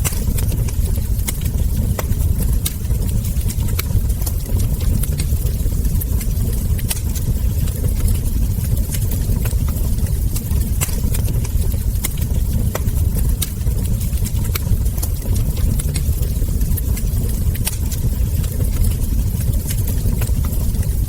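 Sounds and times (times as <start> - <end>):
low rumble: 0.0 - 21.0
wood fire crackling: 0.0 - 21.0.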